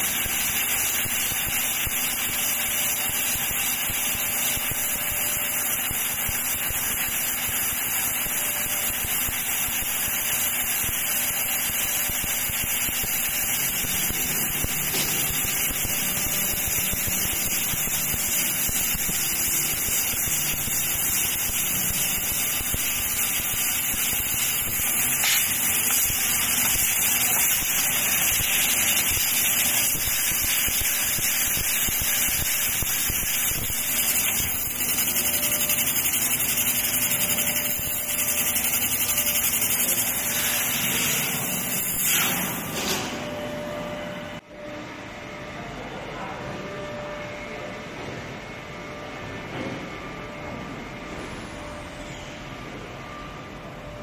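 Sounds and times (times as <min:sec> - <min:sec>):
machine running noise: 0:00.0 - 0:54.0.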